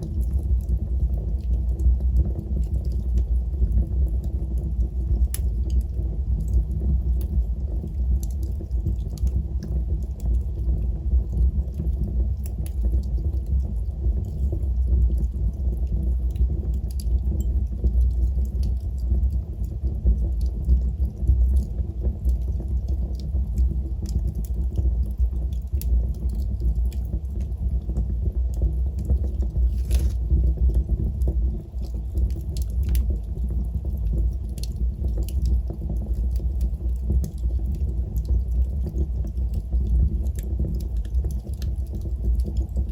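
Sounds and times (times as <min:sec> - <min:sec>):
low rumble of flames: 0:00.0 - 0:42.9
wood crackling and popping: 0:00.0 - 0:42.9
wood fire burning: 0:00.0 - 0:42.9.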